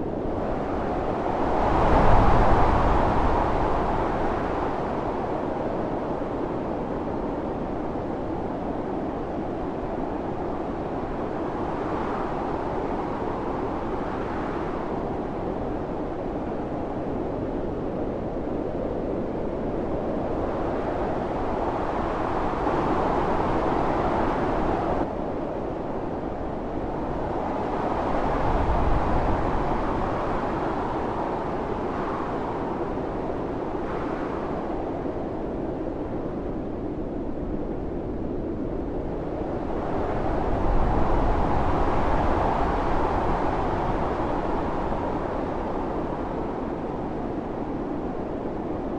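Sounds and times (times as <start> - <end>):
howling blizzard wind: 0.0 - 48.9.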